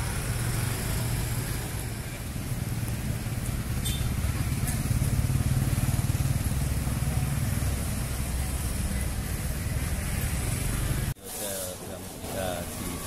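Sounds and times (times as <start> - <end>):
scooter engines rumbling: 0.0 - 13.0.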